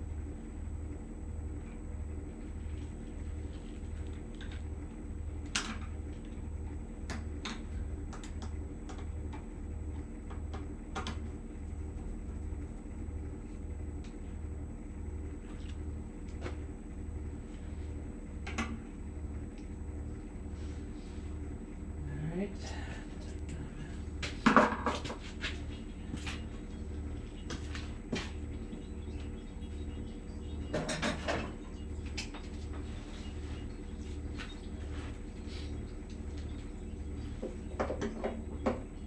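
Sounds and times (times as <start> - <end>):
low machine hum throbbing: 0.0 - 39.0.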